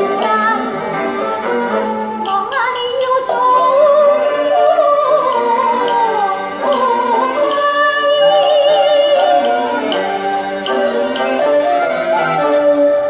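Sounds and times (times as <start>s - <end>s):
vinyl record music with singing: 0.0s - 13.0s.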